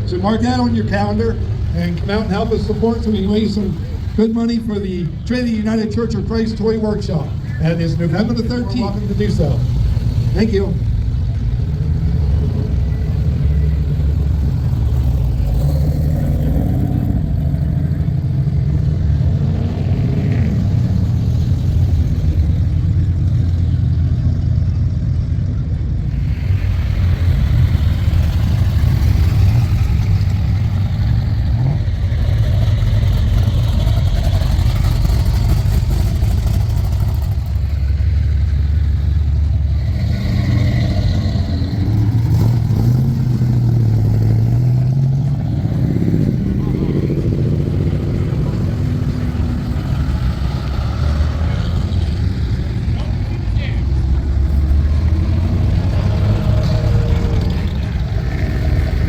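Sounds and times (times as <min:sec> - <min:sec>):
car engines running: 0:00.0 - 0:59.0.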